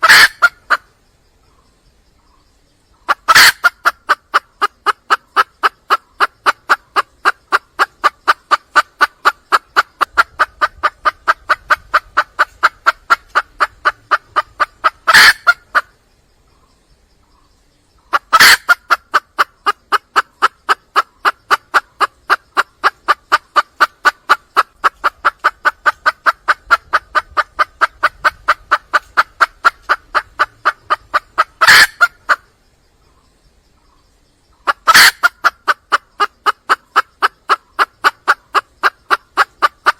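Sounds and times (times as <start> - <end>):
hen squawk: 0.0 - 0.8, 3.1 - 15.9, 18.1 - 32.4, 34.7 - 39.9
hen clucking: 0.0 - 0.9, 3.0 - 16.0, 18.0 - 32.5, 34.6 - 39.9.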